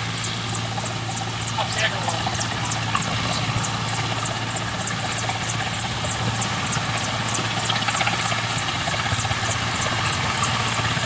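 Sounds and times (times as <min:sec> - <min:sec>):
helicopter running: 0:00.0 - 0:11.0.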